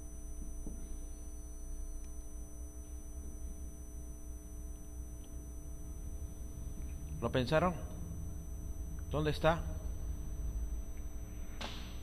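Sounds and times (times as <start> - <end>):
faint whining tones: 0.0 - 12.0
low electrical hum: 0.0 - 12.0.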